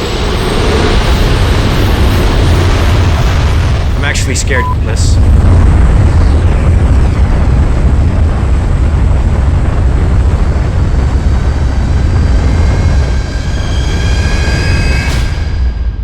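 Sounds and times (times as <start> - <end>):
airplane engines rumbling: 0.0 - 16.0
rushing wind: 0.0 - 16.0.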